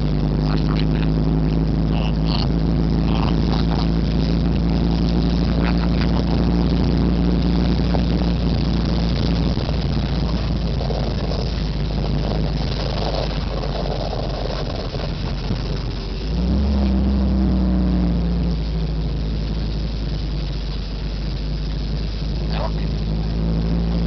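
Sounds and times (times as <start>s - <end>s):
broad rushing noise: 0.0s - 24.0s
vehicle engine running: 0.0s - 24.0s.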